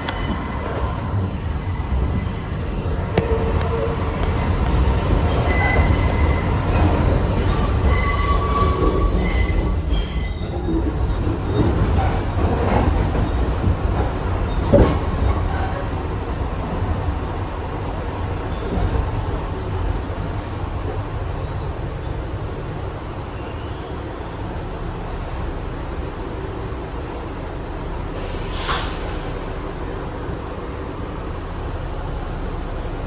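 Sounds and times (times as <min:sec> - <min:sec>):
subway car rumbling on rails: 0:00.0 - 0:33.0.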